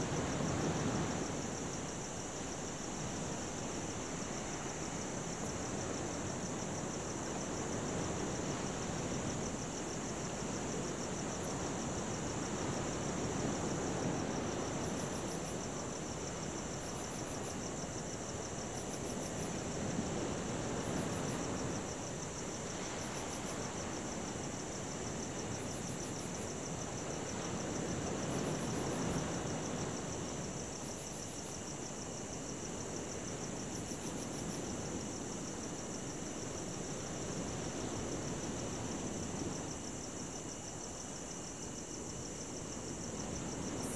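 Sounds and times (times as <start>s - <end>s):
crickets trilling: 0.0s - 43.9s.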